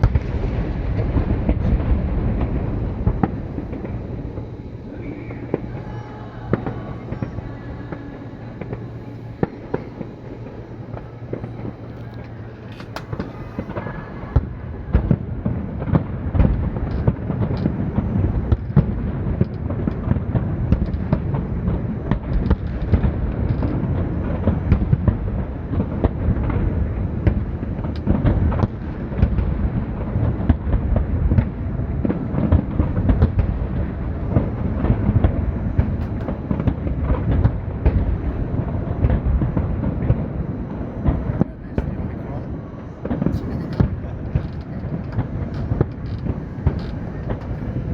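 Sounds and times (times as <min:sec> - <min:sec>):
fireworks cracking: 0:00.0 - 0:47.9
low rumble: 0:00.0 - 0:47.9.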